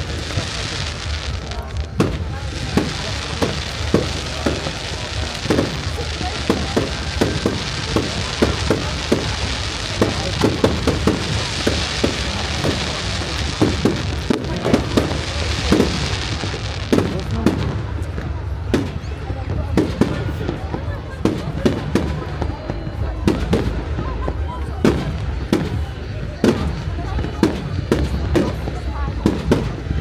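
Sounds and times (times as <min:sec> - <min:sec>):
continuous crackling hiss: 0:00.0 - 0:30.0
fireworks bangs and pops: 0:00.0 - 0:30.0.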